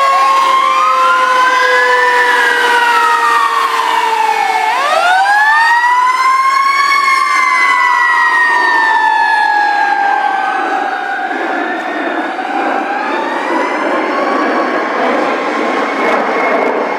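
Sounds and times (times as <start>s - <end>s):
fire truck siren wailing: 0.0s - 16.9s
second siren wailing: 0.0s - 16.9s.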